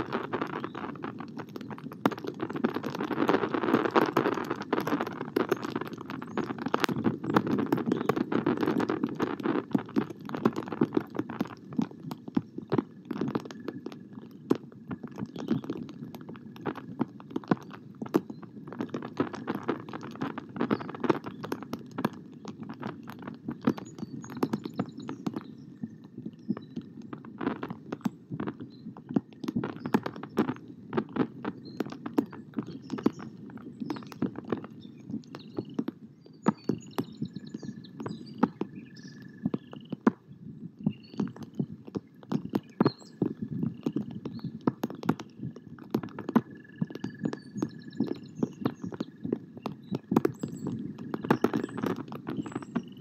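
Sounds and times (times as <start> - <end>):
raindrops tapping camera housing: 0.0 - 53.0.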